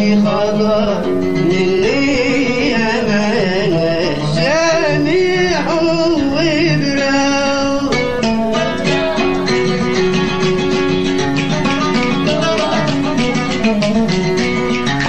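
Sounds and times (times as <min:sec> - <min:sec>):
man singing: 0:00.0 - 0:10.8, 0:11.6 - 0:15.0
plucked strings: 0:00.0 - 0:15.0.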